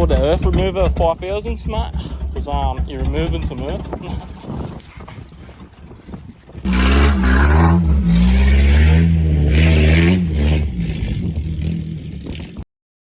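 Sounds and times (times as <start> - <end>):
truck engine revving: 0.0 - 4.6, 6.6 - 12.6
tyres spinning in dirt: 0.0 - 12.6.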